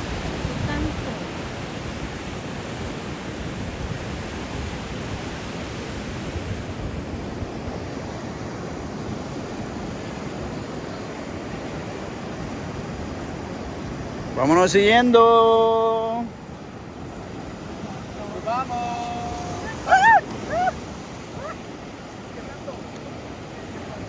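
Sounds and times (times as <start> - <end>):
ocean surf washing on beach: 0.0 - 24.0.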